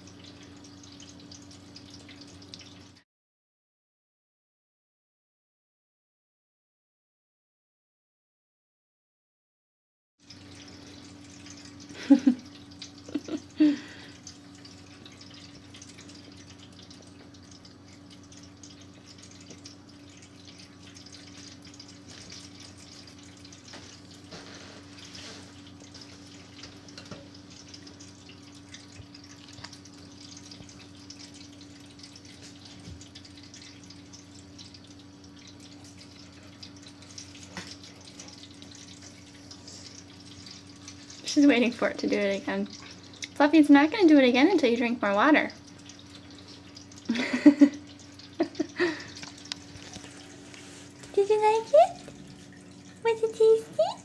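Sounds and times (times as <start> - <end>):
pump humming: 0.0 - 3.0, 10.2 - 54.0
water trickling: 0.0 - 3.0, 10.2 - 54.0.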